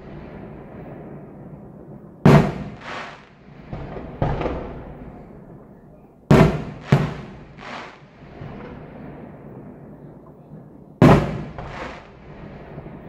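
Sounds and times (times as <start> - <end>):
fireworks bangs with echoing rumble: 0.0 - 13.0.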